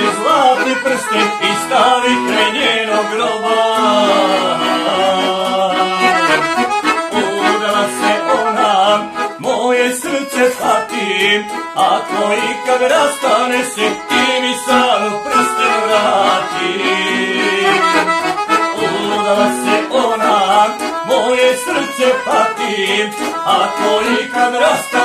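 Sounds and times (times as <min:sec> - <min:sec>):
man singing: 0:00.0 - 0:25.0
piano accordion playing folk song: 0:00.0 - 0:25.0.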